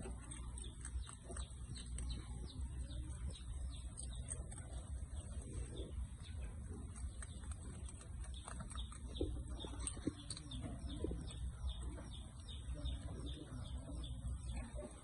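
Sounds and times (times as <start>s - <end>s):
steady low rumble: 0.0s - 14.5s
birds chirping: 0.0s - 15.0s.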